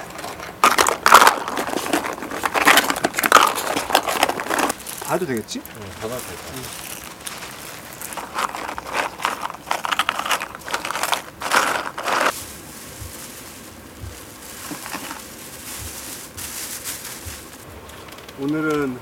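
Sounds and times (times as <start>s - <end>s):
plastic bag crinkling: 0.0s - 18.9s
coarse salt rustling: 0.0s - 19.0s.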